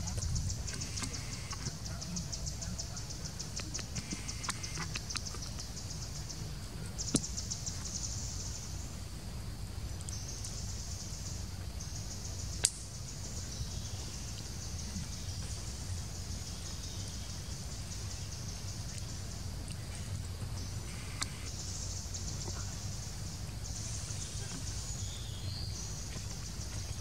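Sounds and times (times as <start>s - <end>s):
insects chorus: 0.0s - 27.0s
low steady rumble: 0.0s - 27.0s.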